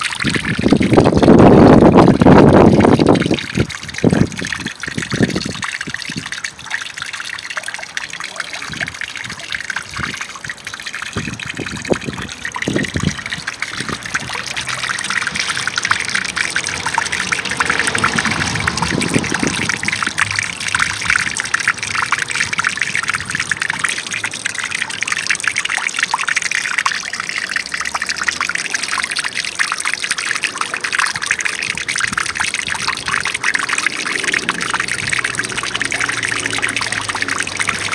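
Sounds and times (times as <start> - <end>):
water trickling and splashing: 0.0 - 37.9.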